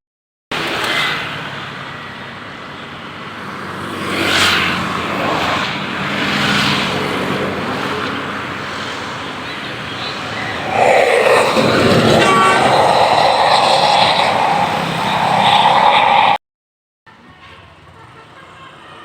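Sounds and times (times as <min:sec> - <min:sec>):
vehicles passing by: 0:00.6 - 0:16.4.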